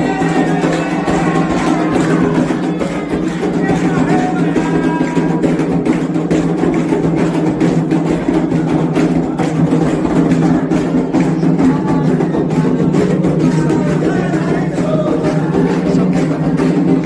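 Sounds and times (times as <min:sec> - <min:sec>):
rhythmic drumming: 0:00.0 - 0:17.0
woody percussion strikes: 0:00.0 - 0:17.0.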